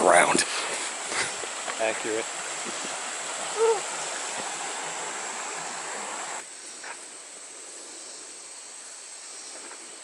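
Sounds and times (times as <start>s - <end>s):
rushing outdoor background noise: 0.0s - 10.0s.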